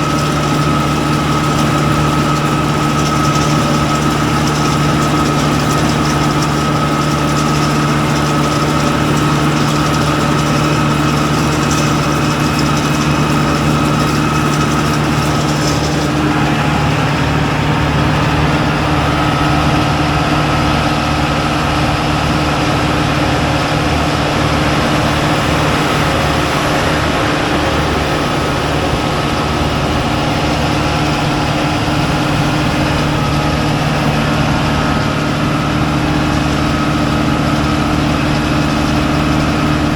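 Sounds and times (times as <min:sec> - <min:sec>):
thin steady whine: 0:00.0 - 0:39.9
tractor engine running: 0:00.0 - 0:39.9.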